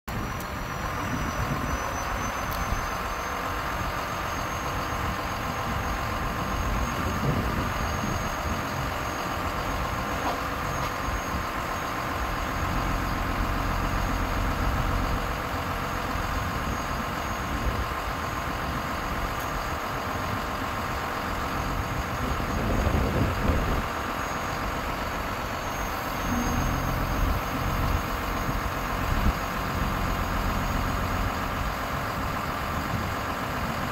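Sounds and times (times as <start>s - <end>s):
diesel truck engine running: 0.1s - 33.9s.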